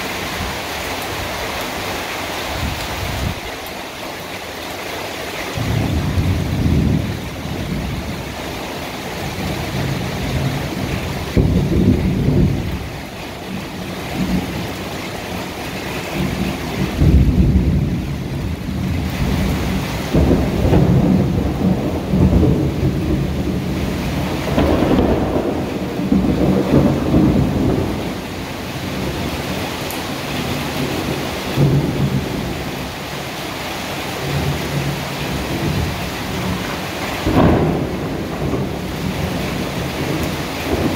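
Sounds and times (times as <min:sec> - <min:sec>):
heavy rain: 0:00.0 - 0:40.9
thunder rumbling: 0:05.6 - 0:33.0, 0:34.2 - 0:40.9.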